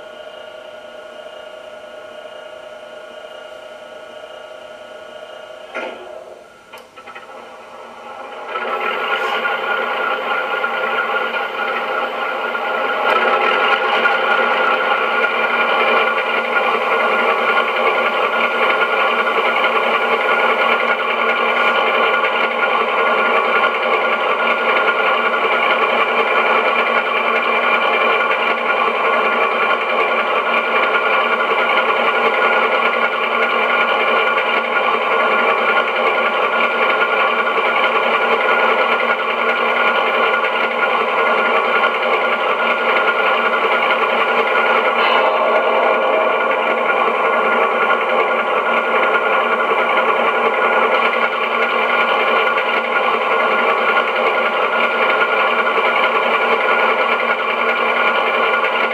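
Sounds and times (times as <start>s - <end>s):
diesel engine sound from small speaker: 0.0s - 58.9s.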